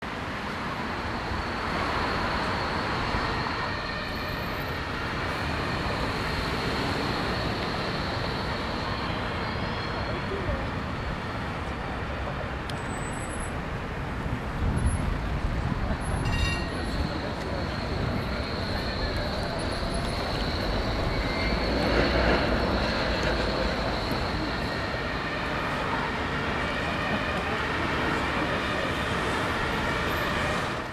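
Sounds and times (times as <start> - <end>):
road traffic: 0.0 - 30.9.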